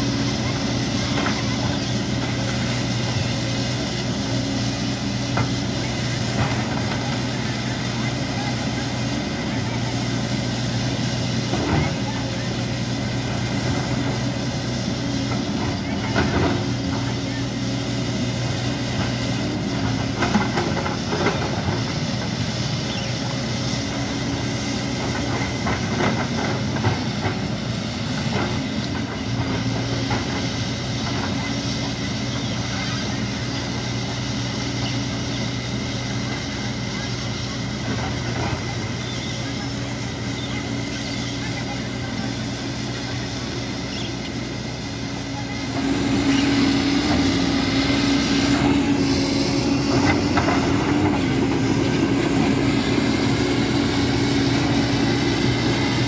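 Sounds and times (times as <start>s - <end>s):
excavator diesel engine running: 0.0s - 56.0s
steel tracks clanking: 0.0s - 56.0s.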